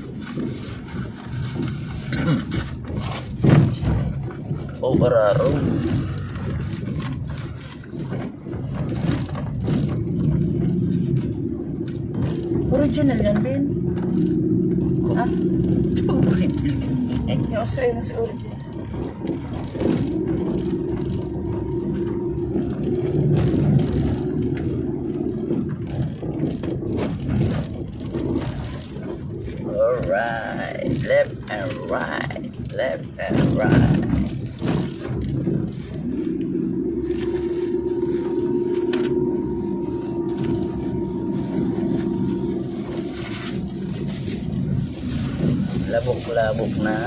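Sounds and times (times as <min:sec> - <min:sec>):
fast mechanical rattle: 0:00.0 - 0:47.0
rumbling road noise: 0:00.0 - 0:47.0
vehicle engine running: 0:00.0 - 0:47.0.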